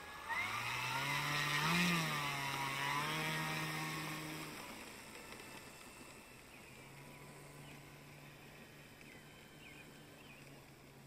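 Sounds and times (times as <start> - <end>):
model plane engine running: 0.0 - 11.0.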